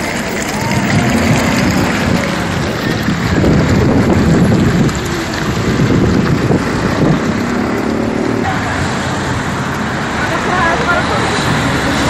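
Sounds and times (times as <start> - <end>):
water splashing onto pavement: 0.0 - 12.0.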